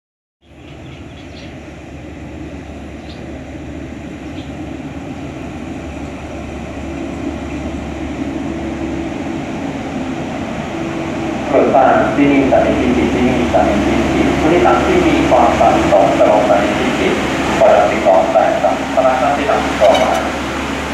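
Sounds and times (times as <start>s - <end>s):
diesel train rumbling: 0.4s - 20.9s.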